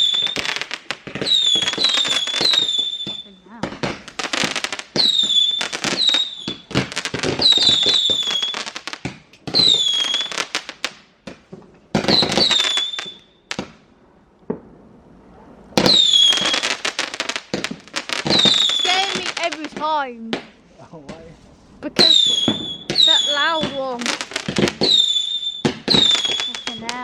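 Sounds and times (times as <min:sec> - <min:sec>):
fireworks crackling bangs: 0:00.0 - 0:15.0, 0:15.7 - 0:27.0.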